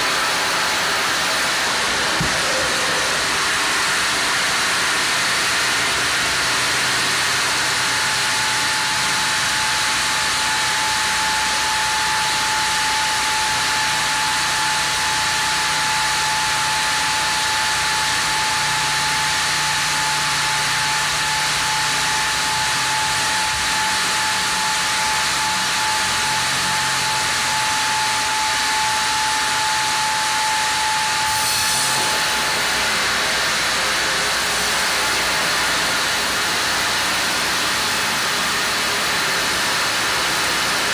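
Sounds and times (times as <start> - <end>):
band saw cutting log: 0.0 - 13.5, 14.1 - 40.9
saw whine: 0.0 - 40.9.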